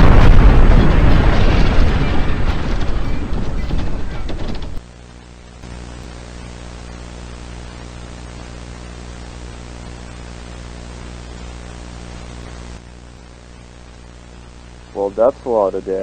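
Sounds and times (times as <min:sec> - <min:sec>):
electrical mains hum: 0:00.0 - 0:16.0
static hiss: 0:00.0 - 0:16.0.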